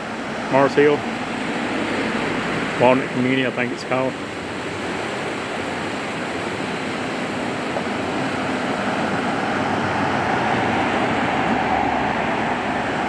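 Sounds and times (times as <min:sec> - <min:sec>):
highway road noise: 0:00.0 - 0:13.0
vehicle approaching: 0:00.0 - 0:13.0.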